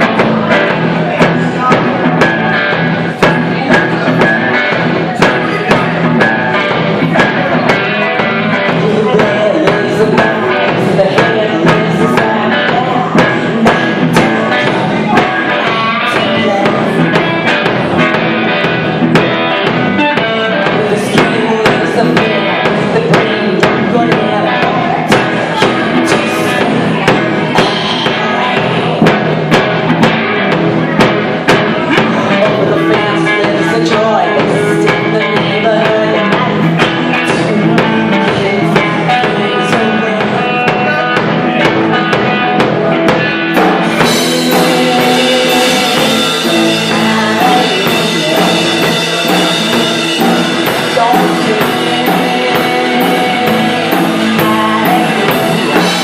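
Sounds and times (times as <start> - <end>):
bass guitar: 0.0 - 56.0
drum kit beats: 0.0 - 56.0
electric guitar: 0.0 - 56.0.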